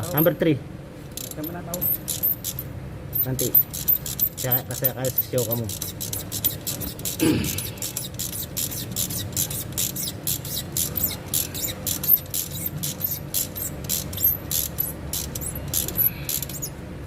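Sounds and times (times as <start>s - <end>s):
ratchet wrench clicking: 0.0s - 0.4s, 1.1s - 16.8s
low steady hum: 0.0s - 17.0s.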